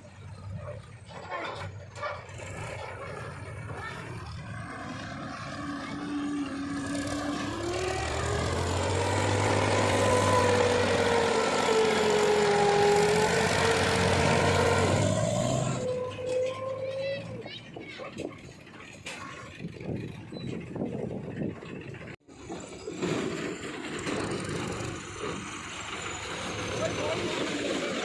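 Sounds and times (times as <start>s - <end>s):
heavy machinery diesel engine revving: 1.6s - 17.5s, 18.5s - 28.0s.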